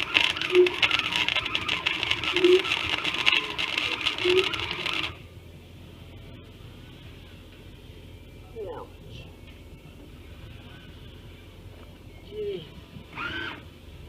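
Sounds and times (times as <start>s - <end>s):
welder arc crackling: 0.0s - 7.8s, 9.5s - 14.0s.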